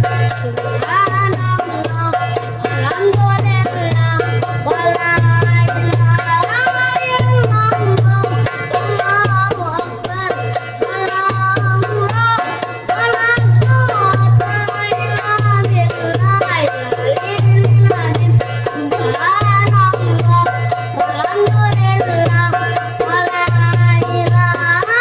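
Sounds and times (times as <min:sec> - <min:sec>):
boy singing ornamented melody: 0:00.0 - 0:25.0
goblet drum rhythm: 0:00.0 - 0:25.0.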